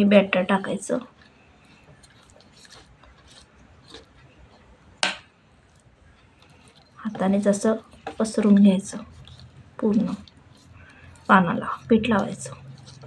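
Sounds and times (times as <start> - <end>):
batter squelching: 0.0 - 13.0.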